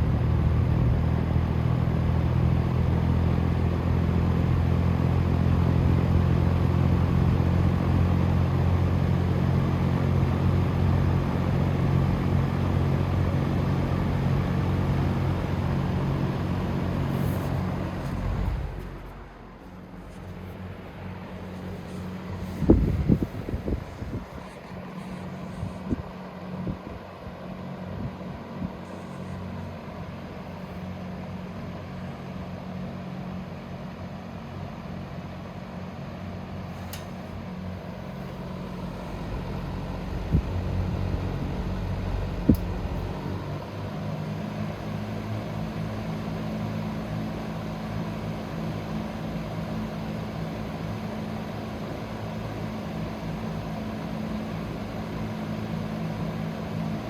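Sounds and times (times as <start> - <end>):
box fan humming and whooshing: 0.0 - 57.0.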